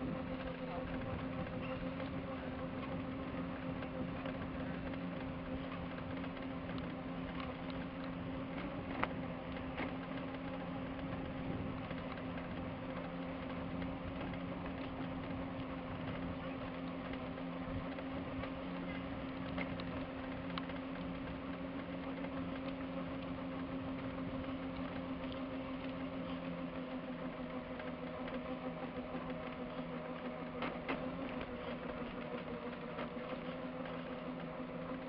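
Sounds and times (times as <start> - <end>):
mobility scooter motor hum: 0.0 - 35.0
small rattles and clicks: 0.0 - 35.0
wheels rolling on pavement: 0.0 - 35.0.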